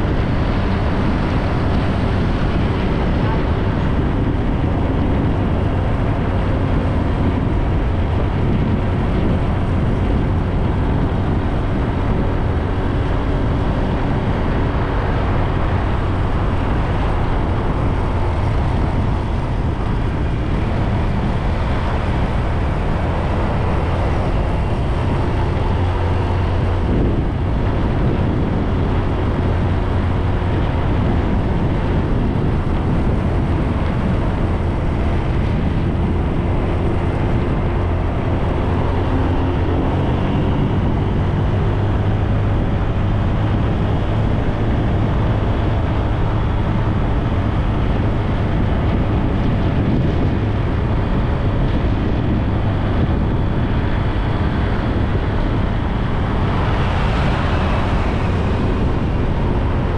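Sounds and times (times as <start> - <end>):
road rumble: 0.0 - 59.9
wind rush on microphone: 0.0 - 59.9.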